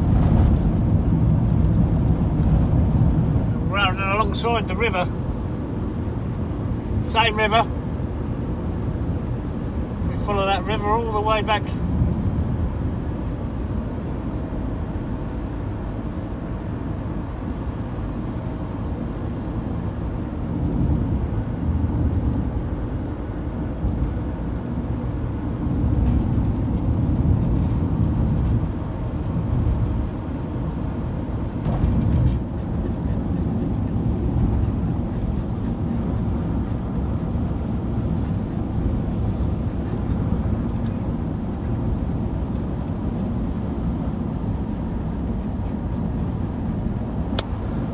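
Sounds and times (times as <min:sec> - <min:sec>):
van engine and road rumble: 0:00.0 - 0:47.9.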